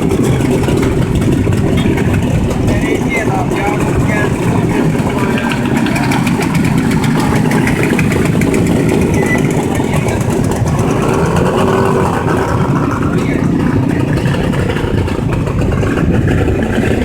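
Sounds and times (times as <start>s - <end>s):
two-stroke motorcycle engines droning: 0.0s - 17.0s.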